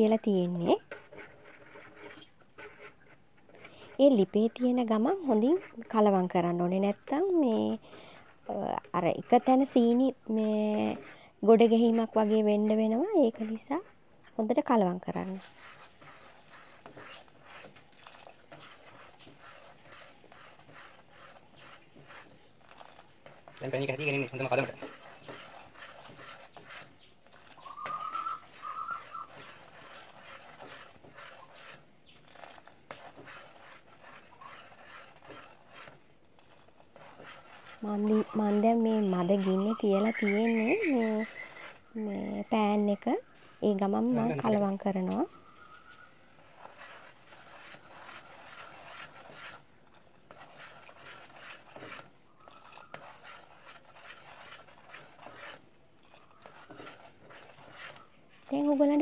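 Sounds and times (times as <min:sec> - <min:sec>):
liquid simmering: 0:00.0 - 0:44.7, 0:45.4 - 0:59.0
spoon scraping metal pan: 0:00.0 - 0:59.0.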